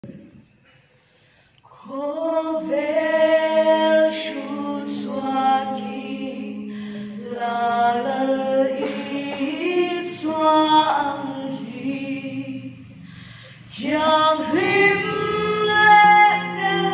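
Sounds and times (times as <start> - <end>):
group singing a cappella: 1.8 - 16.9.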